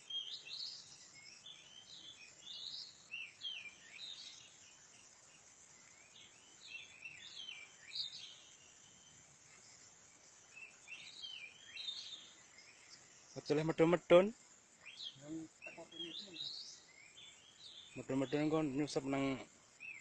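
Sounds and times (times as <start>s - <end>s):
faint outdoor hiss: 0.0s - 20.0s
small birds chirping: 0.0s - 20.0s.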